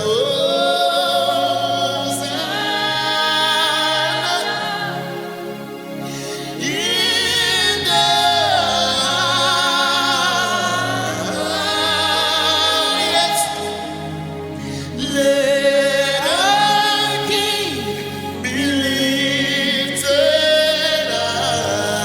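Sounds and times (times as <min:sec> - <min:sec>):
person singing gospel: 0:00.0 - 0:22.0
sustained backing chords: 0:00.0 - 0:22.0.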